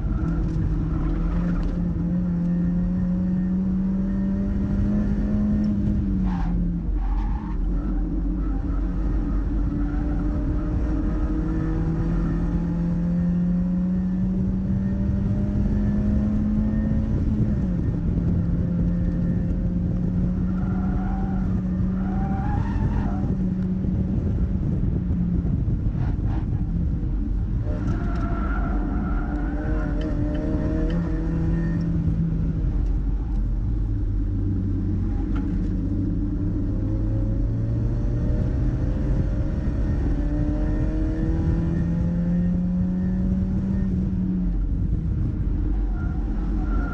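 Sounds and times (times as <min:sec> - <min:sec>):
car engine at high revs: 0:00.0 - 0:46.9.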